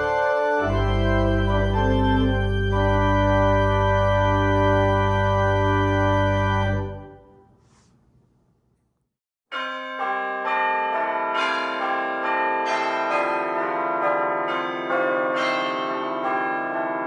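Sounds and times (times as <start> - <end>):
church bells pealing: 0.0 - 7.1, 9.5 - 17.0.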